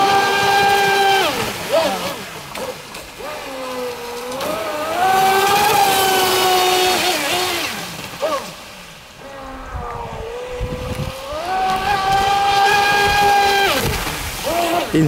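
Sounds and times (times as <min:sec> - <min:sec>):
electric boat motor whining: 0:00.0 - 0:15.0.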